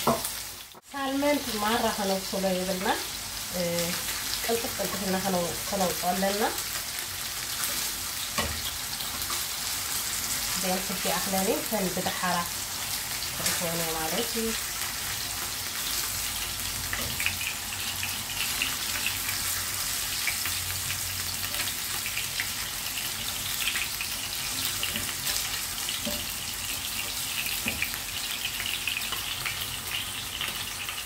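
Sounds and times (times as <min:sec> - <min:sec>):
fish sizzling in hot oil: 0:00.0 - 0:31.0.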